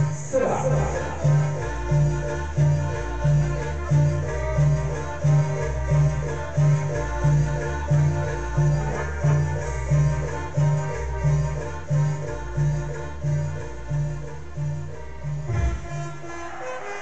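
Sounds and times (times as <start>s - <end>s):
heavy bass beat: 0.0s - 16.5s
latin dance music: 0.0s - 17.0s.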